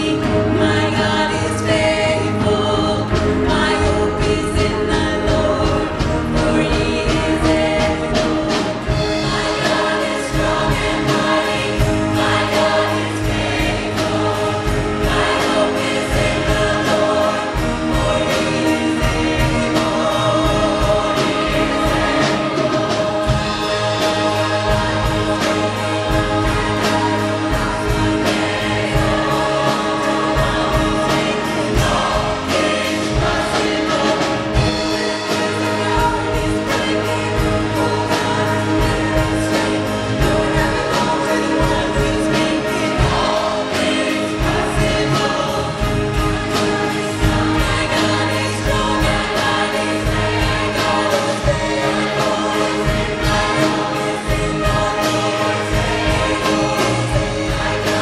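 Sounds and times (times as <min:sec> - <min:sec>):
accompaniment with steady beat: 0:00.0 - 0:58.0
mixed choir singing: 0:00.0 - 0:58.0.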